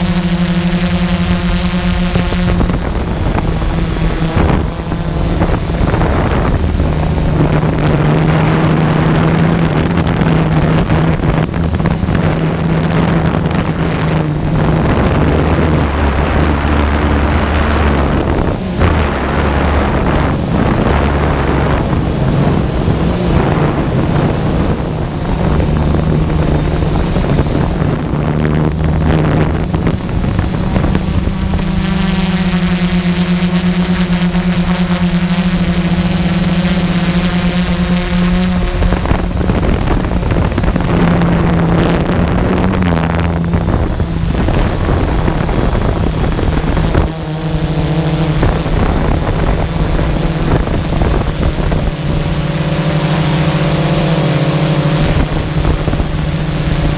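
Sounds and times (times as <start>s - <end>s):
drone propellers buzzing: 0.0s - 56.9s.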